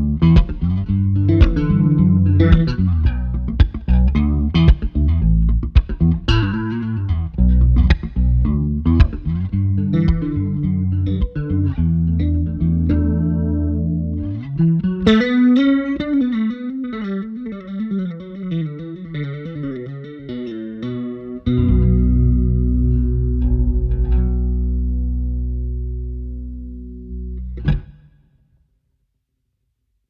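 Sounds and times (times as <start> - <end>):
electric bass with chorus effect: 0.0 - 28.2.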